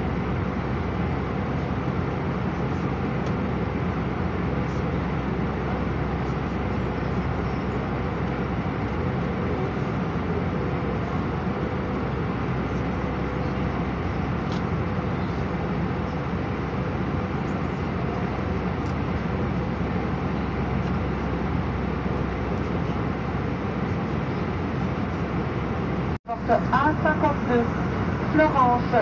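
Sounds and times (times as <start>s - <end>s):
airliner cabin engine drone: 0.0s - 29.0s
faint steady hum: 0.0s - 29.0s.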